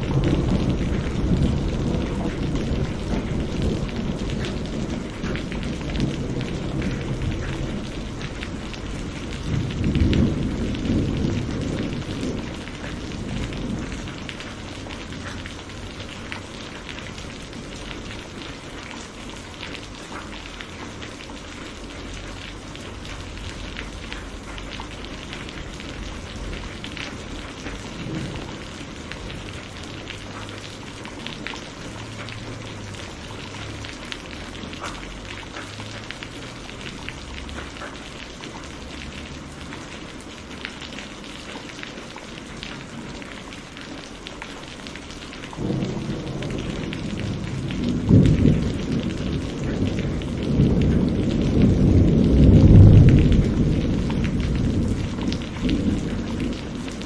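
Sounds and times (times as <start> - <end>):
thunder rumbling: 0.0 - 41.3, 44.6 - 57.0
rain pattering: 0.0 - 57.0.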